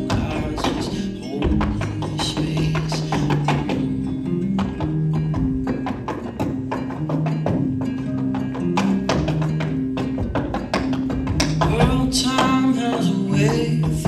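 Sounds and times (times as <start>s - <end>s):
dance shoes tapping on wooden stage: 0.0s - 14.0s
recorded backing music: 0.0s - 14.0s.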